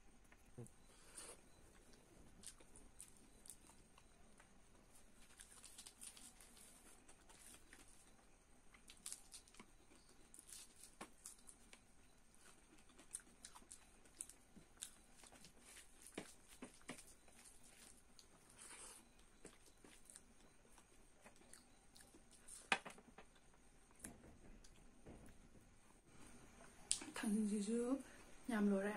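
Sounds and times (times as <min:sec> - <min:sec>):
moist chewing and lip smacks: 0:01.4 - 0:25.4.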